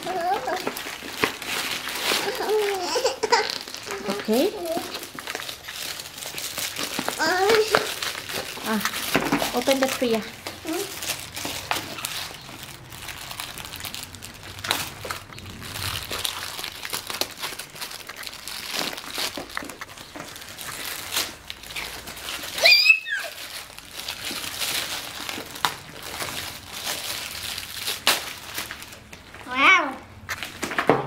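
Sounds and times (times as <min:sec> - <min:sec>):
packaging crinkling: 0:00.0 - 0:29.6, 0:30.2 - 0:30.9.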